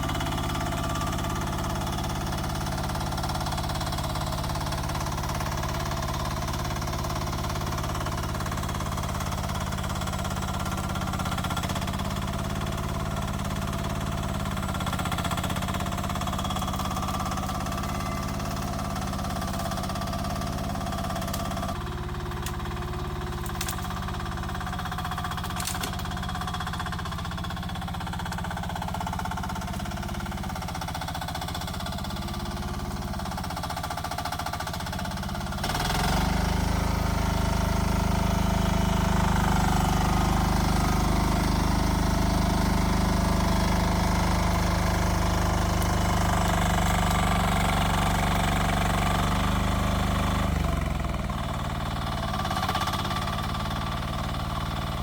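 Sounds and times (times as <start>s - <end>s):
mini excavator engine clattering: 0.0s - 55.0s.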